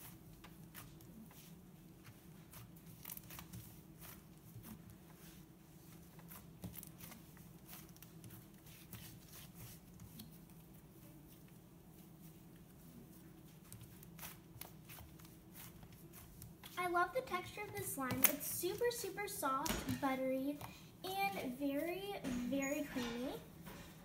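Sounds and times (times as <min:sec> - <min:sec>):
slime crackling as kneaded: 0:00.0 - 0:22.2.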